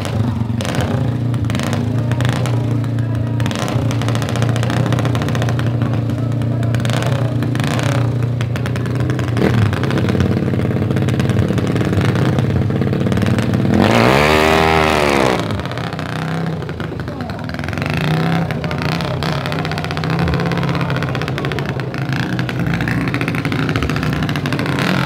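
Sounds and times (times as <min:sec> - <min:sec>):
motorcycle engines running: 0:00.0 - 0:25.0
motorcycle revving hard: 0:00.0 - 0:25.0.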